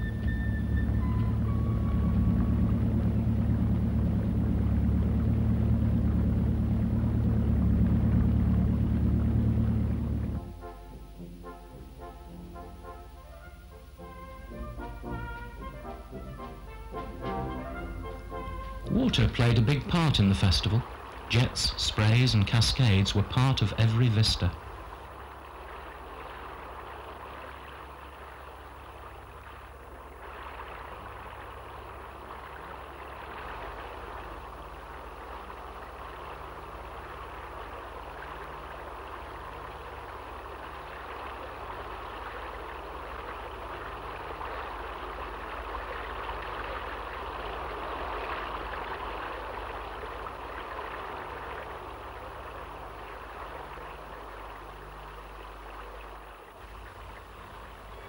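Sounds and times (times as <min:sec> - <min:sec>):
fountain water splashing: 0:00.0 - 0:58.0
low steady hum: 0:00.0 - 0:58.0.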